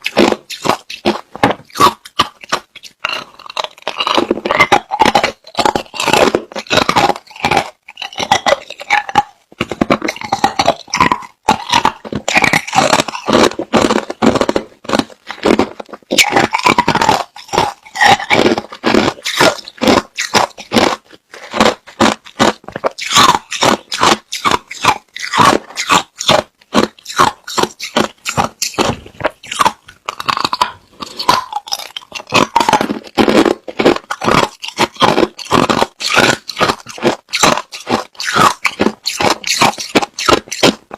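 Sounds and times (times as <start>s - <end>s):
crushed ice being chewed: 0.0s - 40.9s.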